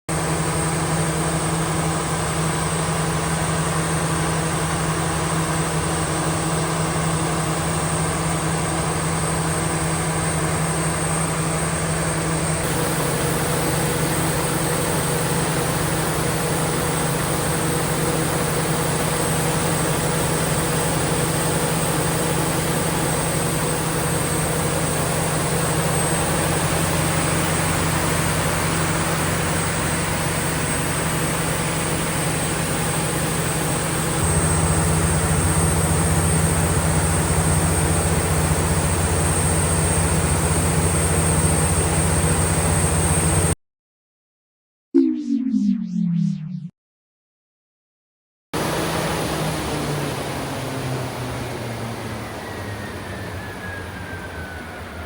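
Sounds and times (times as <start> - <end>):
diesel generator engine drone: 0.1 - 43.5, 48.6 - 55.0.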